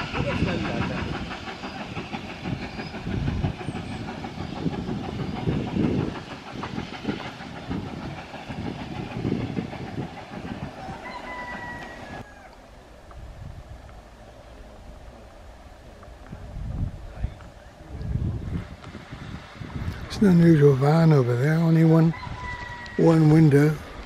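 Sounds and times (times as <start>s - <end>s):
distant train clattering and rumbling: 0.0s - 24.0s.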